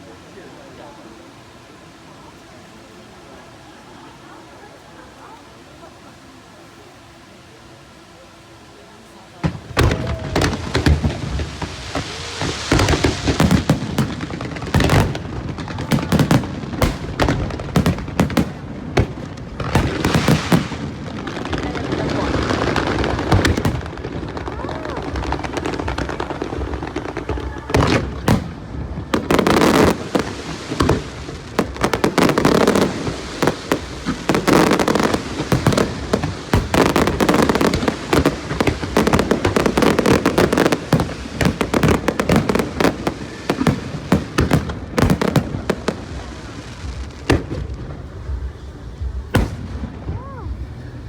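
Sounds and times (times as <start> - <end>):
fireworks crackling: 8.8 - 51.0
fireworks bangs: 9.4 - 51.0.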